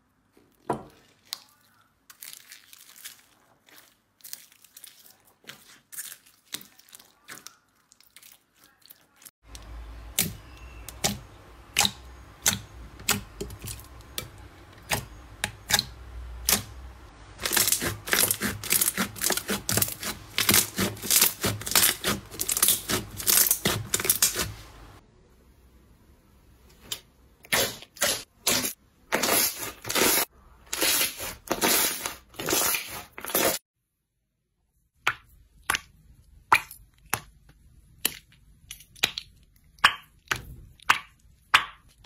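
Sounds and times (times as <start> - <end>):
slime squishing: 0.4 - 25.0, 26.8 - 33.6, 35.1 - 42.0.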